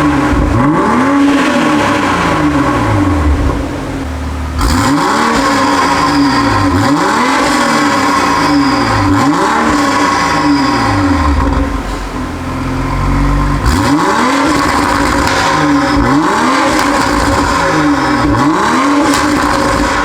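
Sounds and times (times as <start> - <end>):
car engine revving in throttle blips: 0.0 - 20.0.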